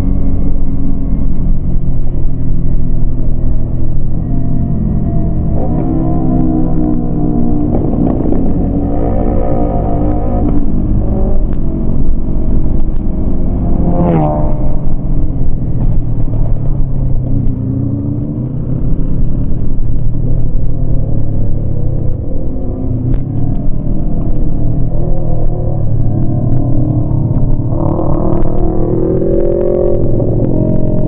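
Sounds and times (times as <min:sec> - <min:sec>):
motorcycle engine running: 0:00.0 - 0:31.0
wind rumble: 0:00.0 - 0:31.0.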